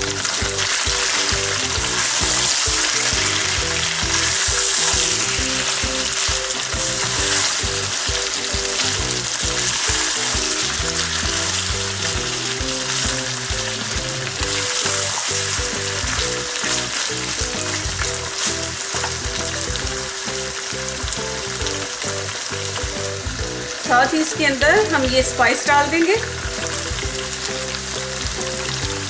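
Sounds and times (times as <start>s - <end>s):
food sizzling in a wok: 0.0s - 29.0s
quiet background music: 0.0s - 29.0s.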